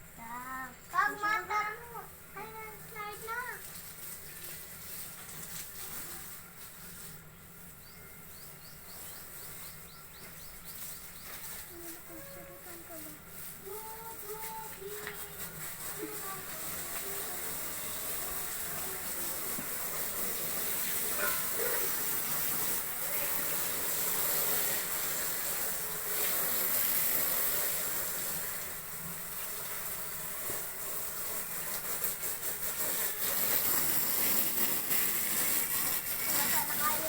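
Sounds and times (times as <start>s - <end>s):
hose spraying water on sawdust: 0.0s - 37.0s.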